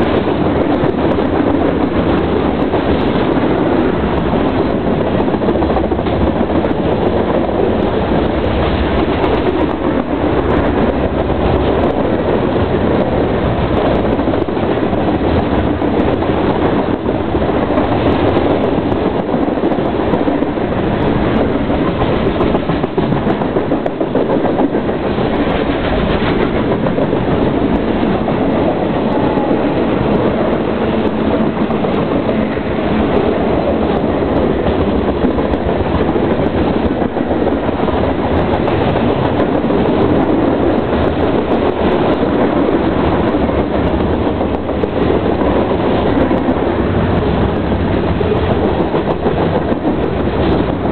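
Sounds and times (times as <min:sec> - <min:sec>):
freight train wheels rumbling on rail: 0:00.0 - 0:50.9.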